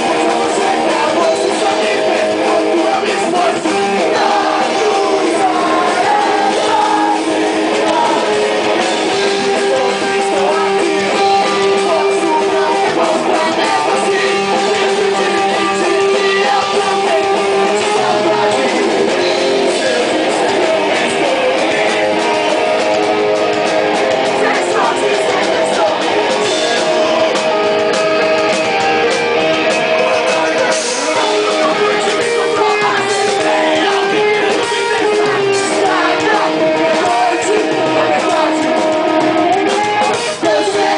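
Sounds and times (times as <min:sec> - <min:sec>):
drums: 0:00.0 - 0:40.9
electric guitars: 0:00.0 - 0:40.9
person singing: 0:00.0 - 0:40.9.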